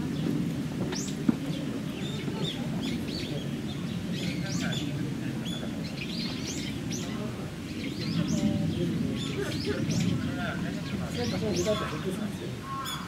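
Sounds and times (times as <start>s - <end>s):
low background murmur: 0.0s - 13.0s
small birds chirping: 0.0s - 13.0s.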